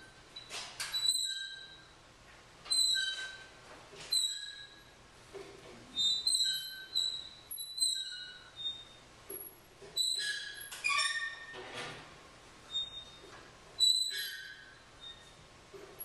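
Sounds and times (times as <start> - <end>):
short high squeaks: 0.0 - 2.0, 2.7 - 5.0, 5.9 - 11.6, 12.7 - 16.0.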